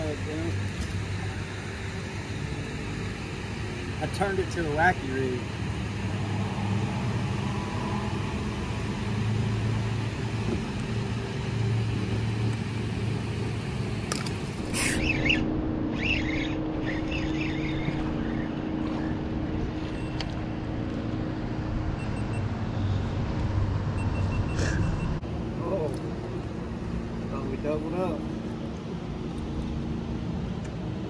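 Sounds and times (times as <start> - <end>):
mechanical rumble and hum: 0.0 - 31.0.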